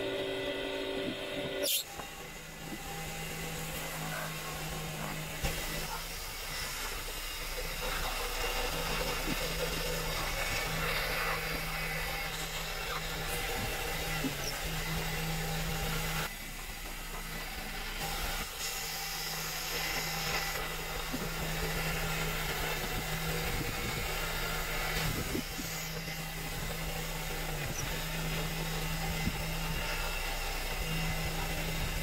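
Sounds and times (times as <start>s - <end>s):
workshop machine motor humming: 0.0s - 32.0s.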